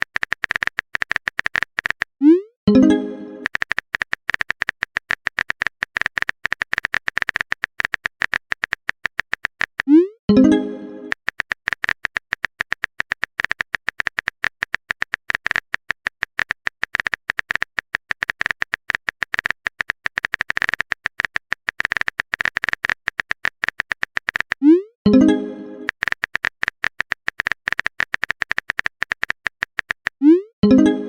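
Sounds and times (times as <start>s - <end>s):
rapid keyboard clicks: 0.0s - 2.2s, 2.9s - 10.0s, 11.0s - 24.7s, 25.8s - 30.3s.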